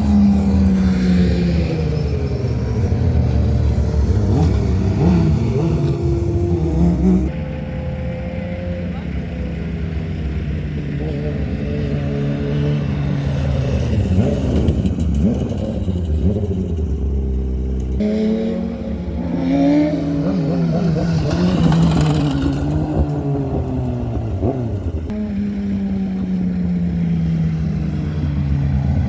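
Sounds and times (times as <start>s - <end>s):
motorcycle engines revving: 0.0s - 29.0s.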